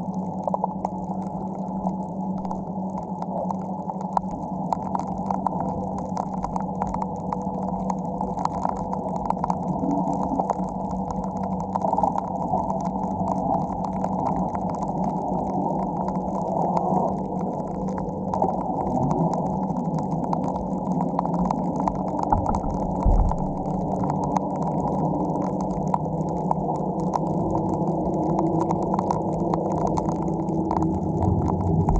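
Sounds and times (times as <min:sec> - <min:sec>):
faint crackling clicks: 0:00.0 - 0:31.9
underwater boat engine drone: 0:00.0 - 0:31.9.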